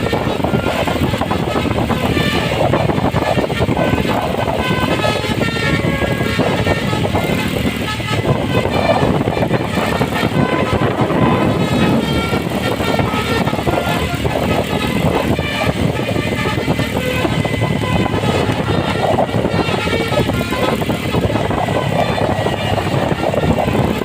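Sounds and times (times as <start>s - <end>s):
bus musical horn tune: 0.0s - 24.0s
engine and traffic noise: 0.0s - 24.0s.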